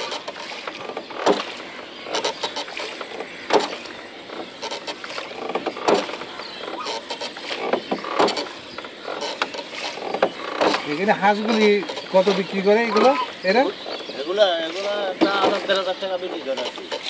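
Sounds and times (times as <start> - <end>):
oar creaking in wooden pivot: 0.0 - 17.0
water swishing: 0.0 - 17.0.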